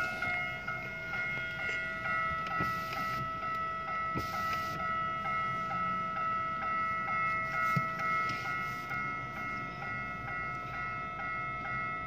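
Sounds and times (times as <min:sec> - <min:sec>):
level crossing bell ringing: 0:00.0 - 0:12.0.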